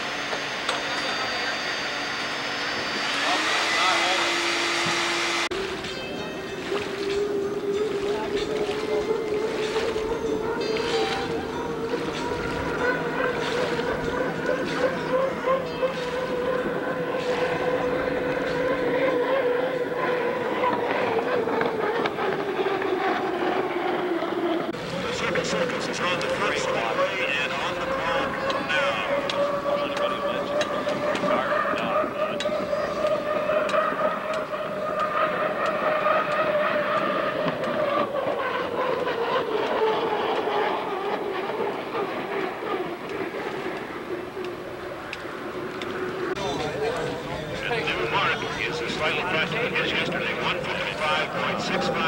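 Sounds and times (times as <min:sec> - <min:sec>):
hydroplane engine high note: 0:00.0 - 0:52.0
rushing water noise: 0:00.0 - 0:52.0.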